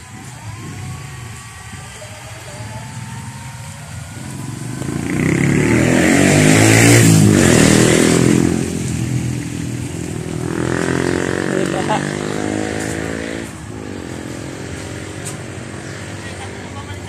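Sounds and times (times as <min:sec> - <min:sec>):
vehicle passing on wet road: 0:00.0 - 0:17.0.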